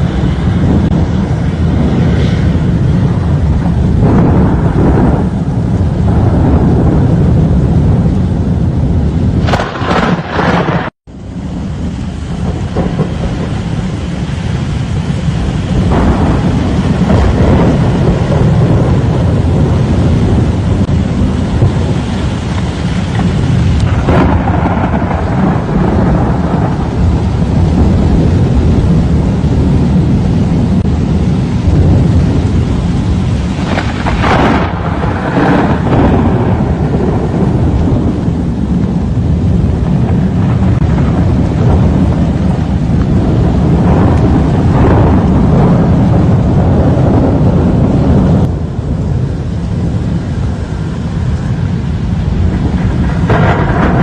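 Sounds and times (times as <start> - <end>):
deep thunder rumbling: 0.0 - 54.0
rain rushing: 0.0 - 54.0
wind: 0.0 - 54.0.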